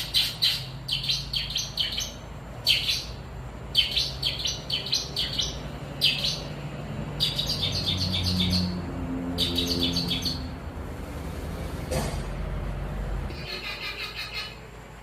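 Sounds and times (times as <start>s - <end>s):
shrike chirping song: 0.0s - 10.6s, 13.3s - 15.0s.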